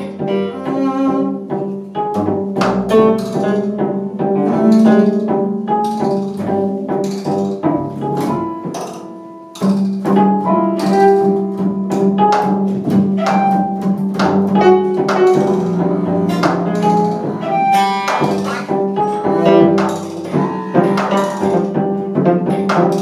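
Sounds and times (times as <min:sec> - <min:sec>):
bowed cello and double bass: 0:00.0 - 0:23.0.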